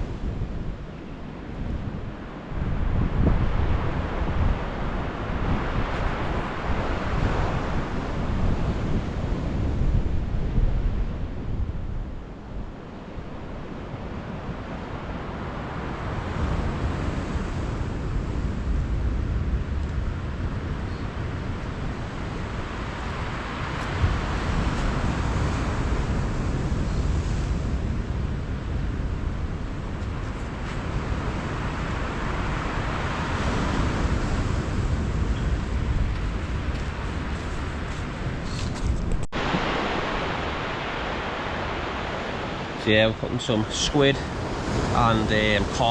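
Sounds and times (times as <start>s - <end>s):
sea surf washing onto shore: 0.0s - 45.9s
wind buffeting microphone: 0.0s - 45.9s.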